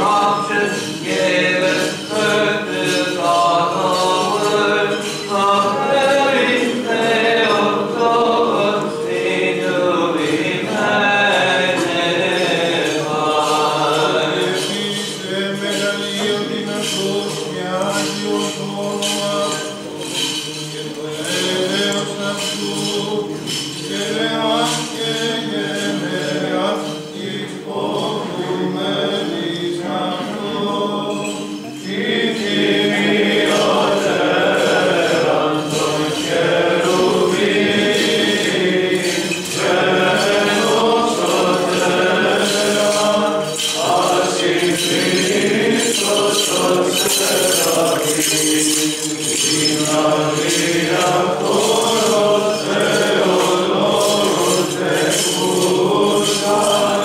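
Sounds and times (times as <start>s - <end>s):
group of voices chanting: 0.0s - 57.0s.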